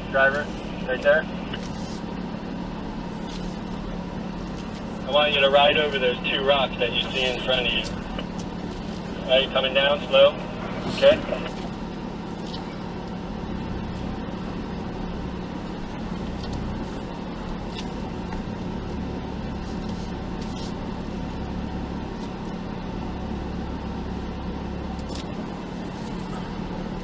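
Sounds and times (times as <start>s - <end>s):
engine running at low revs: 0.0s - 27.0s.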